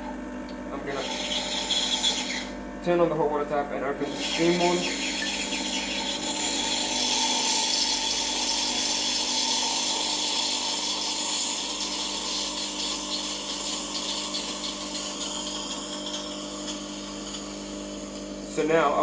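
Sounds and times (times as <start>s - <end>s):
pump humming: 0.0s - 19.0s
steam hissing into jug: 0.8s - 2.6s, 4.0s - 19.0s.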